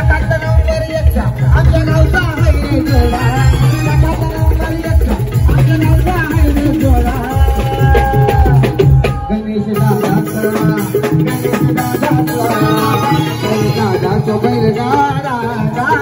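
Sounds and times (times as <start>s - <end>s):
drum kit beating: 0.0s - 16.0s
electronic drum pad: 0.0s - 16.0s
keyboard melody: 0.0s - 16.0s.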